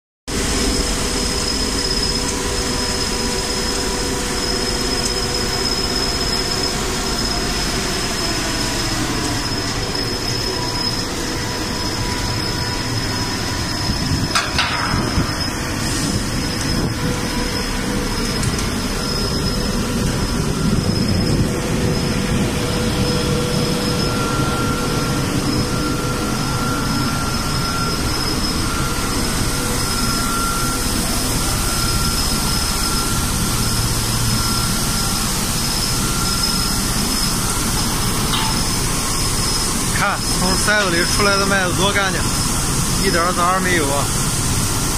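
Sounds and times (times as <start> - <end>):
grain cleaning machine running: 0.3 - 44.9
high steady whines: 0.3 - 44.9.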